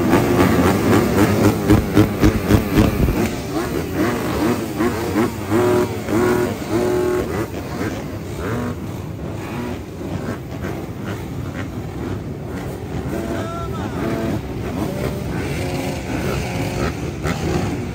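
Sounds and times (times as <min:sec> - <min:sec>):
motocross bike engines accelerating: 0:00.0 - 0:17.9.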